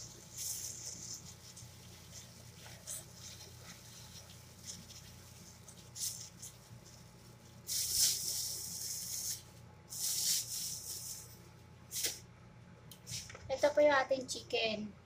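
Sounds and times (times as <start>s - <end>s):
plastic gloves rustling: 0.0s - 12.2s.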